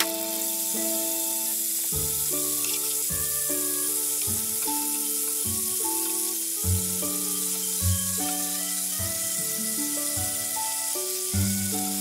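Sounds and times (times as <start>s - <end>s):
background music: 0.0s - 12.0s
food sizzling in a frying pan: 0.0s - 12.0s
sauce bubbling: 0.0s - 12.0s.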